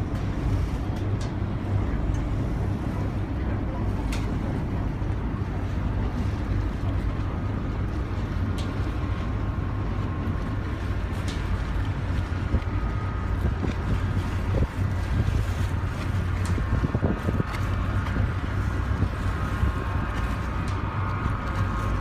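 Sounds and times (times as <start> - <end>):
boat engine rumbling: 0.0 - 22.0
wind noise on microphone: 0.0 - 22.0.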